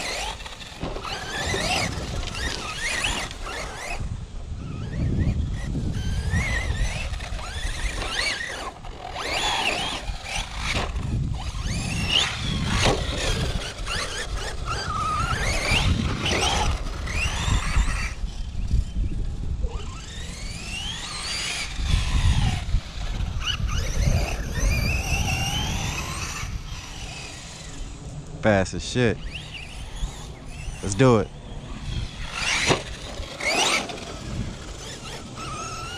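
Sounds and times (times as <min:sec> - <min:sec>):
electric motor whining: 0:00.0 - 0:35.9.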